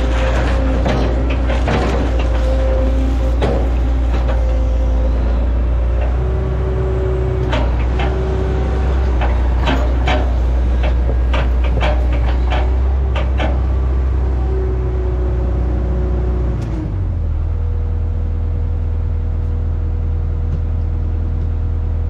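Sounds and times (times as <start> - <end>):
hydraulic whine: 0.0 - 18.0
excavator diesel engine humming: 0.0 - 22.0.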